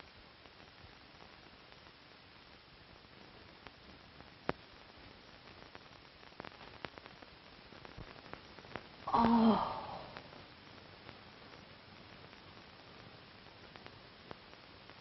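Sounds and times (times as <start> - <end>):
faint clicks and crackles: 0.0 - 15.0
film soundtrack hiss: 0.0 - 15.0.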